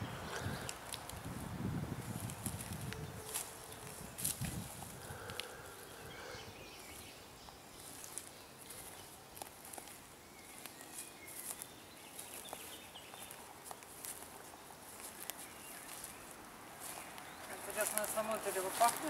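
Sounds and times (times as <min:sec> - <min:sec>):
footsteps through long grass: 0:00.3 - 0:05.7, 0:06.8 - 0:19.0.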